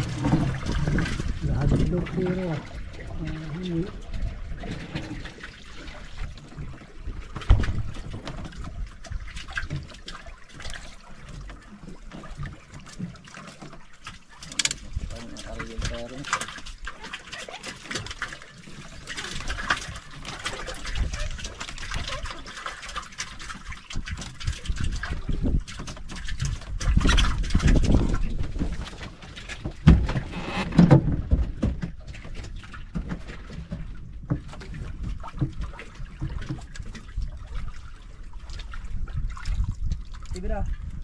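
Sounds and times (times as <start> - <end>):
small water splashes: 0.0 - 41.0
water lapping against boat hull: 0.0 - 41.0.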